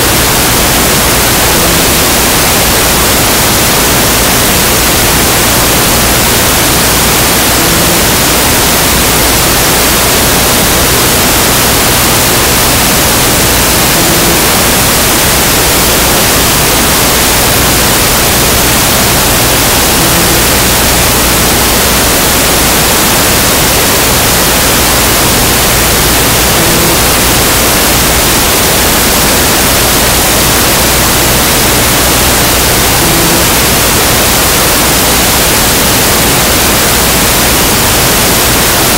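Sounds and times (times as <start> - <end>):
loud static hiss: 0.0 - 38.9.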